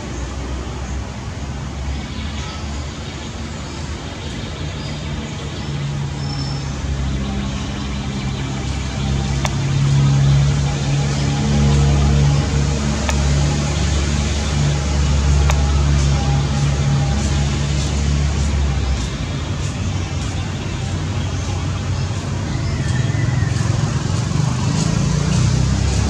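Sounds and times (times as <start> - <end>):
vehicle engine droning: 5.1 - 26.0.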